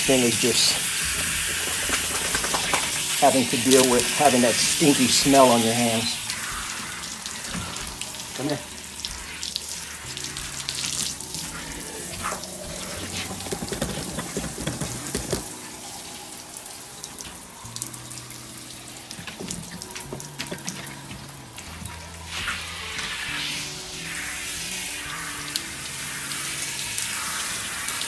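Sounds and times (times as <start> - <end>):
water spattering on deck boards: 0.0 - 28.0
water spraying from hose: 0.0 - 28.0.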